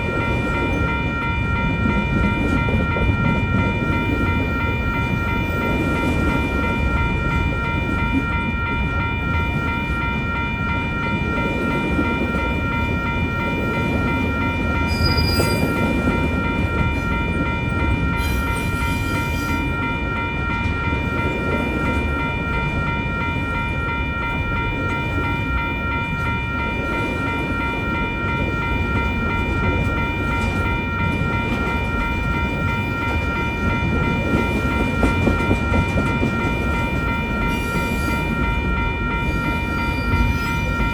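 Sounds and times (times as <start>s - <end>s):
crossing warning bell ringing: 0.0s - 40.9s
freight train wheels rumbling: 0.0s - 40.9s.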